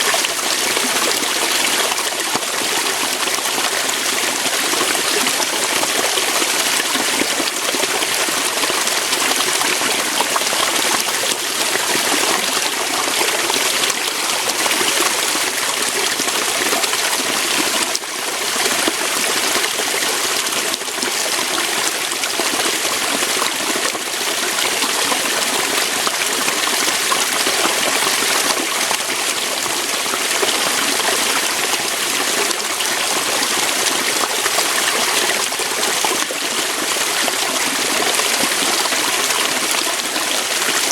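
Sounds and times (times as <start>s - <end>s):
waterfall rushing over rocks: 0.0s - 40.9s.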